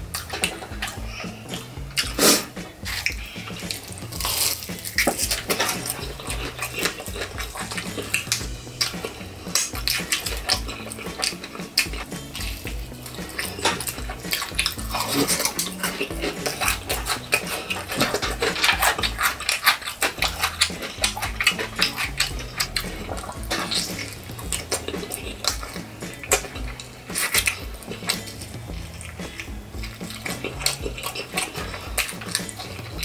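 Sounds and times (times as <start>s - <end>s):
crunching fried chicken: 0.0s - 33.0s.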